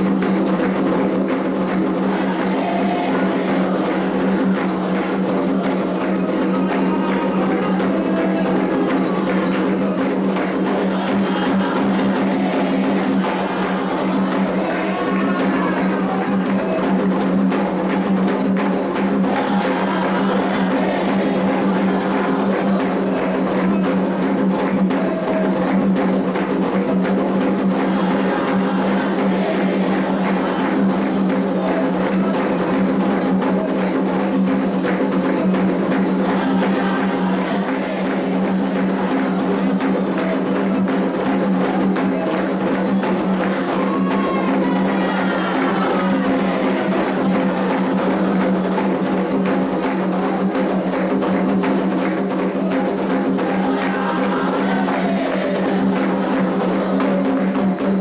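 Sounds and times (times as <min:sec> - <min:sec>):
hand drums playing dense rhythm: 0:00.0 - 0:58.0.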